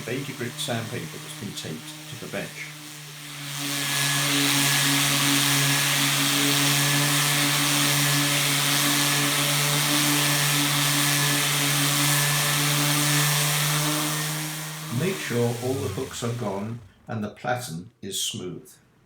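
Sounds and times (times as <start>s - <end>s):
orbital sander running: 0.0s - 17.1s
sanding hiss: 0.0s - 17.1s.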